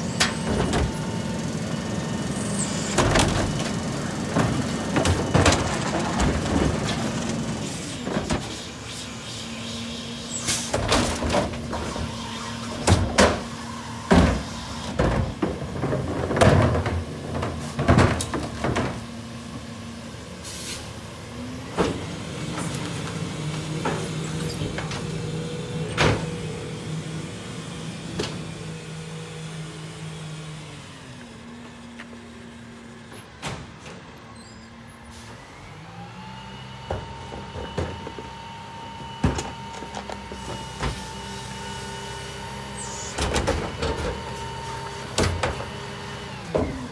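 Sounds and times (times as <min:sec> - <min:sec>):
garbage truck engine droning: 0:00.0 - 0:46.9.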